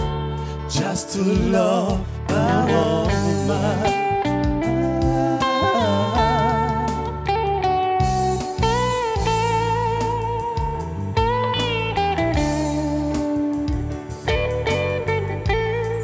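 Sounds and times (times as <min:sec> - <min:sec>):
lead guitar with vibrato: 0:00.0 - 0:16.0
steady bass line: 0:00.0 - 0:16.0.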